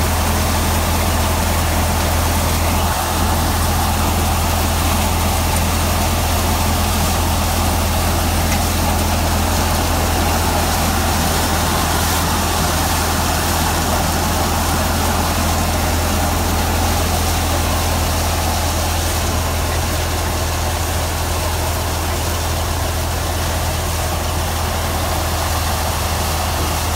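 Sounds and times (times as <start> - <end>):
threshing machine running: 0.0 - 26.9.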